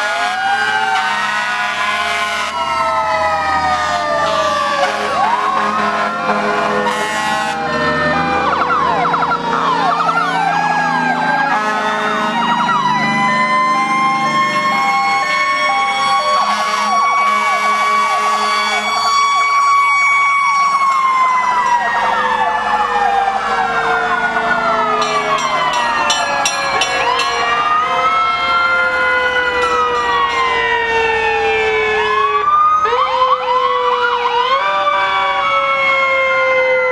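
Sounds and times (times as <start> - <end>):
fire engine sirens wailing: 0.0 - 36.9.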